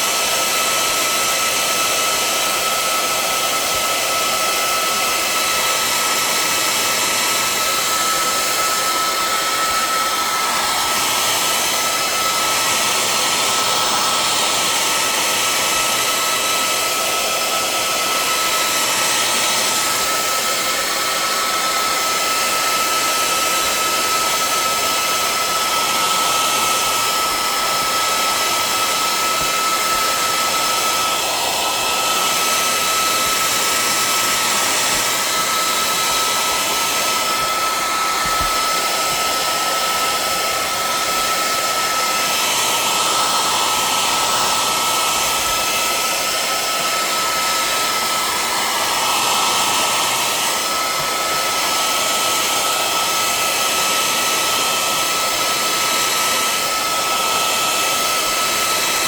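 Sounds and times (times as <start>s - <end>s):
hairdryer blowing: 0.0s - 59.0s.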